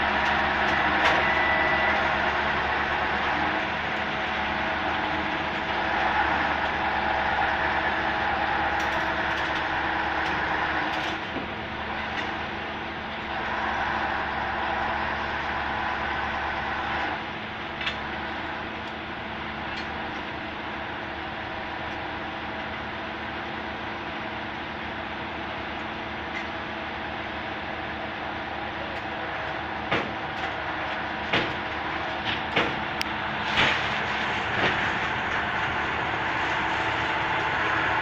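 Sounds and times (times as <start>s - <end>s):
heavy machinery engine running: 0.0s - 38.0s.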